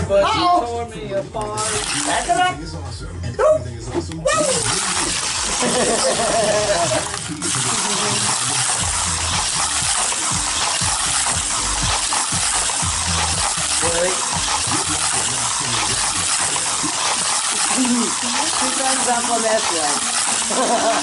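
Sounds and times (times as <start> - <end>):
toy car whirring and rattling: 1.4 - 2.5, 4.3 - 21.0.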